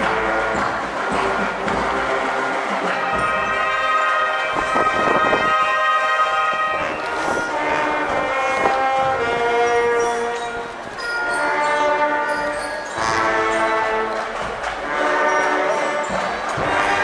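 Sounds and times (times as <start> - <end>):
brass band playing slow march: 0.0 - 17.0.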